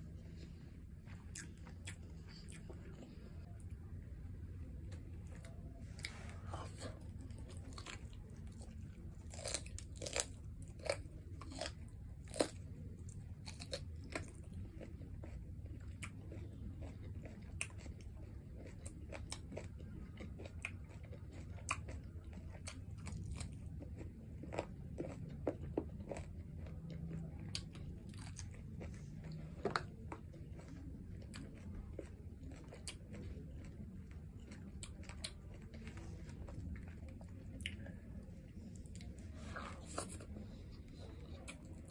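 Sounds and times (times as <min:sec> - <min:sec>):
close chewing and mouth clicks: 0:00.0 - 0:04.0, 0:04.6 - 0:41.9
low background hum: 0:00.0 - 0:41.9.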